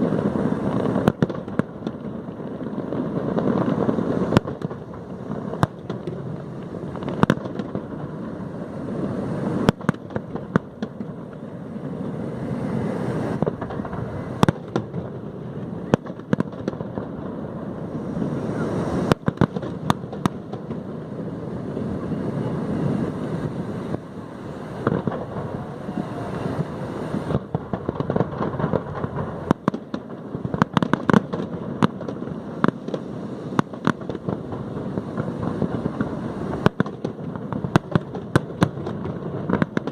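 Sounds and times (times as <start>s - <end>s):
background rumble: 0.0s - 39.9s
crackling pops of fireworks: 0.0s - 39.9s
firework bangs: 0.0s - 39.9s.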